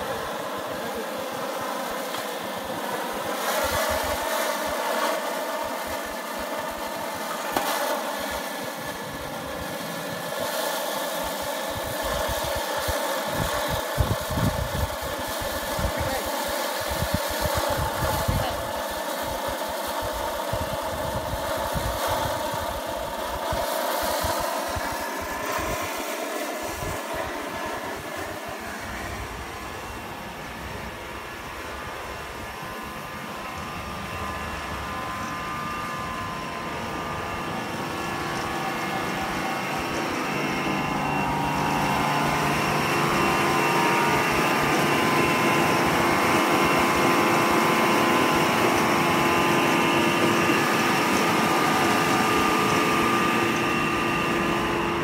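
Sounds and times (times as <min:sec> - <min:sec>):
air rushing through hose: 0:00.0 - 0:55.0
blower humming with whine: 0:00.0 - 0:55.0.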